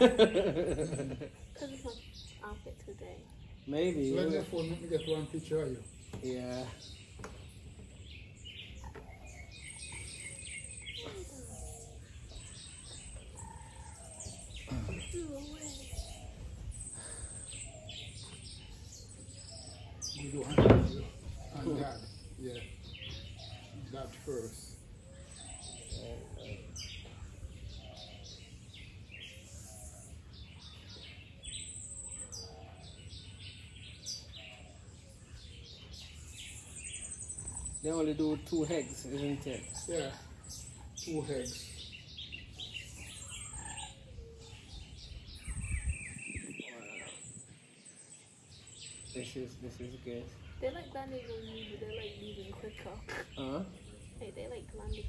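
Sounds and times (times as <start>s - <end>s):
high bird trill: 0.0s - 55.0s
small birds chirping: 0.0s - 55.0s.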